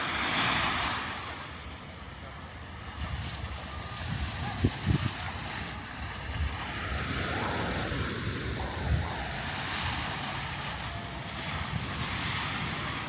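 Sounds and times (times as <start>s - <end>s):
surf washing onto beach: 0.0s - 13.0s
wind buffeting microphone: 2.0s - 13.0s.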